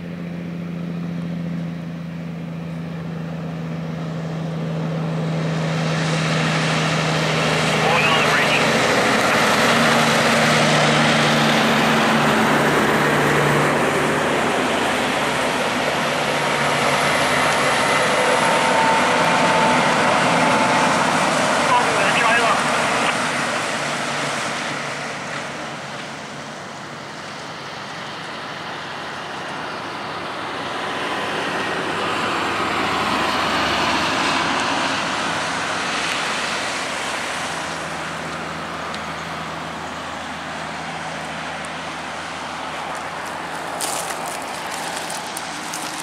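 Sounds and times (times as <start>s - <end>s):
highway traffic rumble: 0.0s - 46.0s
vehicle passing close: 0.0s - 46.0s.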